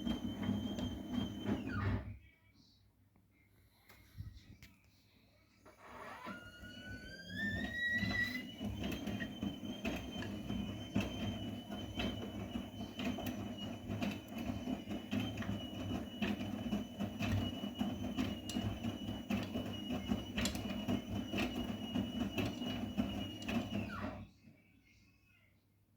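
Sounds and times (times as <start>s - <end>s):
washing machine motor whining: 0.0s - 2.2s, 5.6s - 24.3s.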